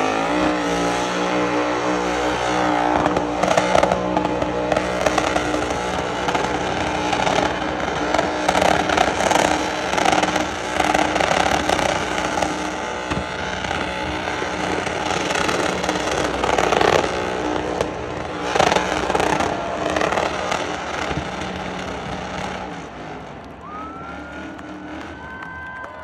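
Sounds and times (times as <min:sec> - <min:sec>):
truck engine at high revs: 0:00.0 - 0:26.0
tyres spinning on pavement: 0:02.9 - 0:26.0.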